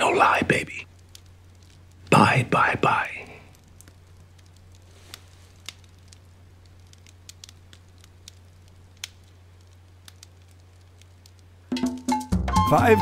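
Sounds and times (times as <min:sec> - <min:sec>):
low steady hum: 0:00.0 - 0:11.7
log fire crackling: 0:00.0 - 0:13.0.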